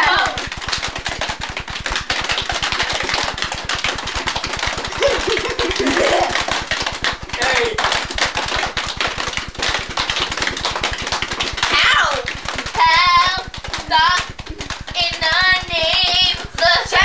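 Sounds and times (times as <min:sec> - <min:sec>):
fast patter of taps and claps: 0:00.0 - 0:17.0.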